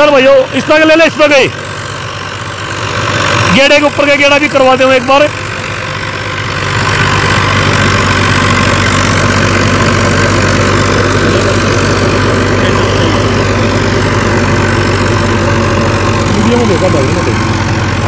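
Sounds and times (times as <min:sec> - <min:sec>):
rotary blades churning soil: 0:00.0 - 0:18.0
tractor diesel engine running: 0:00.0 - 0:18.0.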